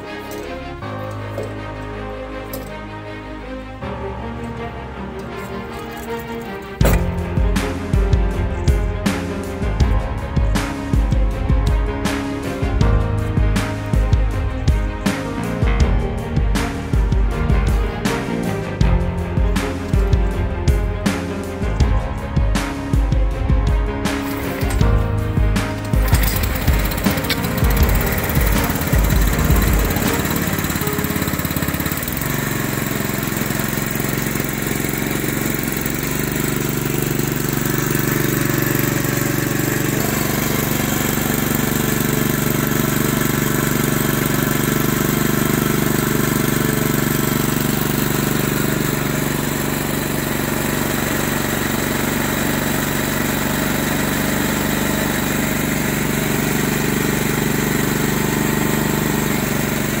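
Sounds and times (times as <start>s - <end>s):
tiller engine running: 0.0s - 60.0s.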